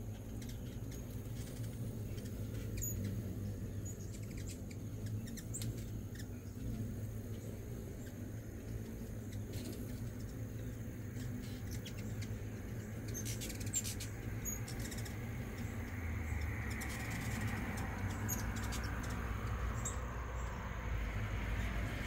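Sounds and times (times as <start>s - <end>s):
hummingbirds chipping: 0.0s - 22.0s
low traffic rumble: 0.0s - 22.0s.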